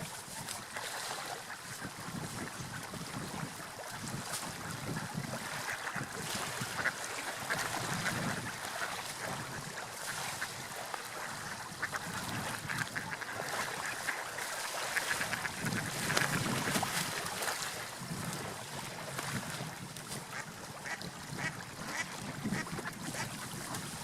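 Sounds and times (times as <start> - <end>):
sea water washing: 0.0 - 24.0.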